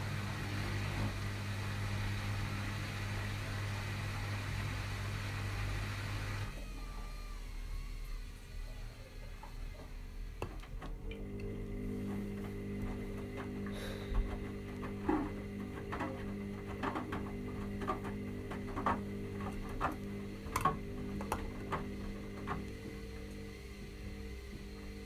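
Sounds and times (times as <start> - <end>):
washing machine motor hum: 0.0 - 25.0.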